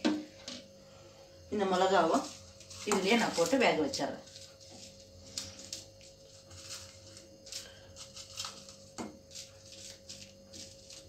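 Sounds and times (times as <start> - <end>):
faint steady hum: 0.0 - 11.0
plastic bag crinkling: 1.9 - 11.0.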